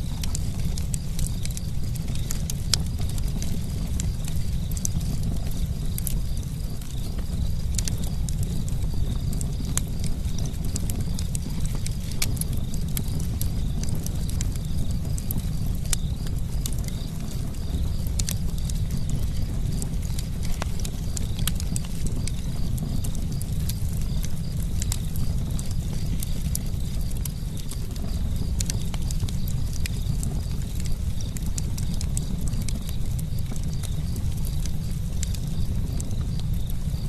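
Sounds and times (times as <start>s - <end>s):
burning wood popping and snapping: 0.0s - 37.0s
low rumble of flames: 0.0s - 37.0s.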